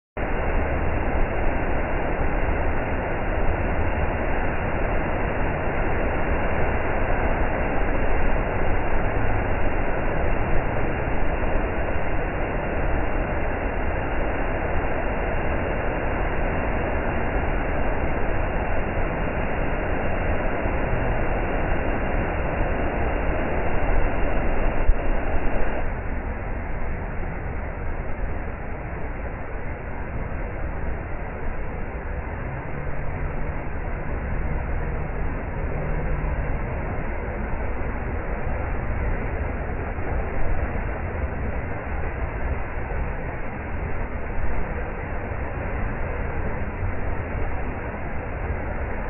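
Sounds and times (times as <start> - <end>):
waterfall rushing: 0.2 - 49.0.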